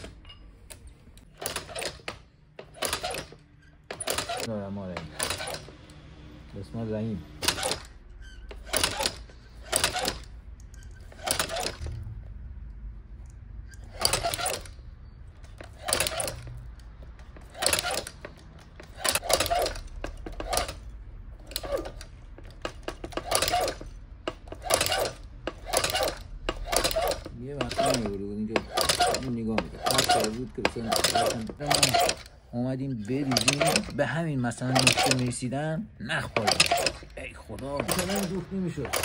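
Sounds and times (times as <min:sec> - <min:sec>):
sewing machine metallic clatter: 0:00.0 - 0:06.0, 0:07.3 - 0:12.0, 0:13.6 - 0:35.5, 0:36.2 - 0:39.0.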